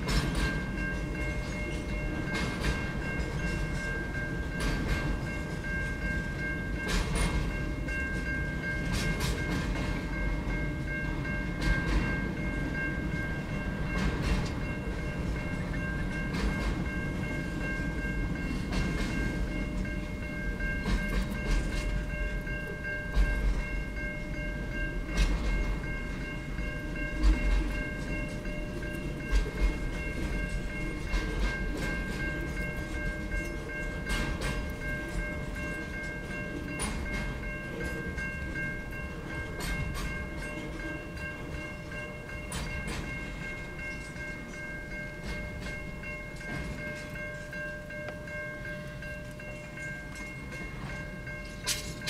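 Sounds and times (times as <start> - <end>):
train wheels rumbling on rail: 0.0 - 52.0
wheels clacking over rail joints: 0.0 - 52.0.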